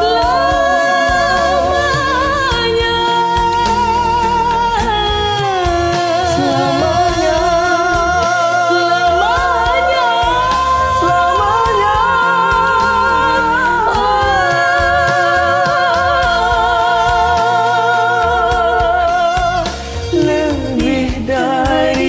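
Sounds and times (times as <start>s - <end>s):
backing track music: 0.0s - 22.0s
man and woman singing a duet: 0.0s - 22.0s.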